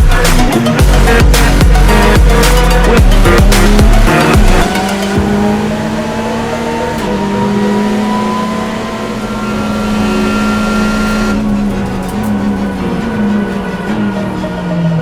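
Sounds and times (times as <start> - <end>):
race car engine rising pitch: 0.0 - 15.0.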